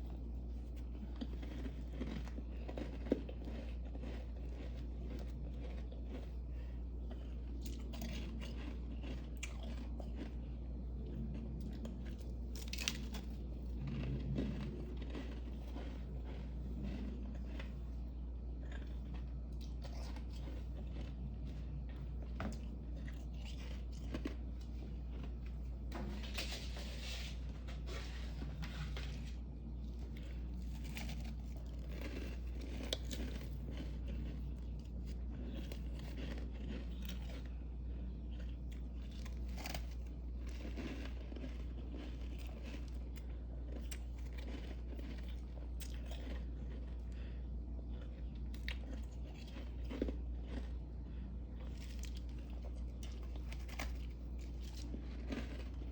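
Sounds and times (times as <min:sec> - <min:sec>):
crunching frost while chewing: 0:00.0 - 0:55.9
steady low hum: 0:00.0 - 0:55.9.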